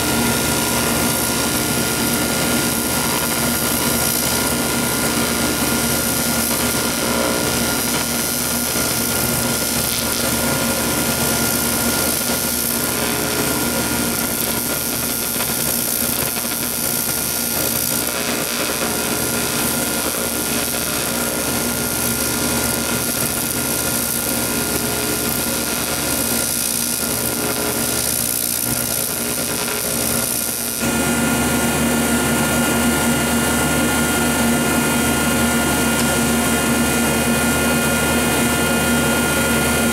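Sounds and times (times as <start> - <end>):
welder electrical buzz and hum: 0.0 - 39.9.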